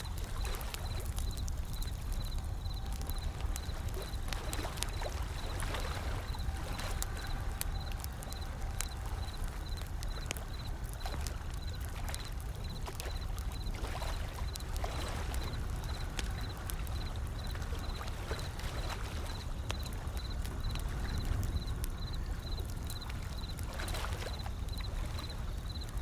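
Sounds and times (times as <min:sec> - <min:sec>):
crackling wood fire: 0:00.0 - 0:26.0.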